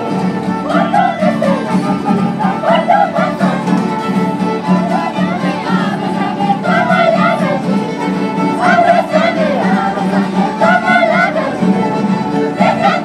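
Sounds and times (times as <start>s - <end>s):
fiddle dance music: 0.0s - 13.0s.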